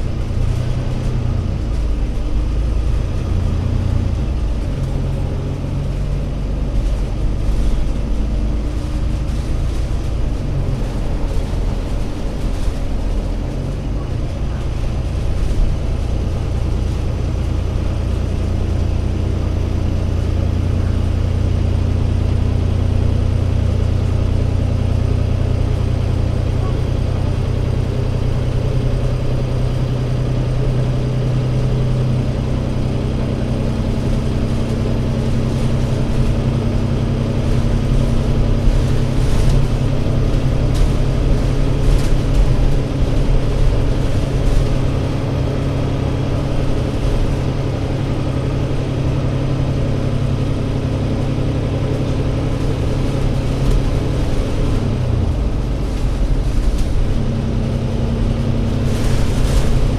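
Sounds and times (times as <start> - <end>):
bus diesel engine humming: 0.0 - 59.9.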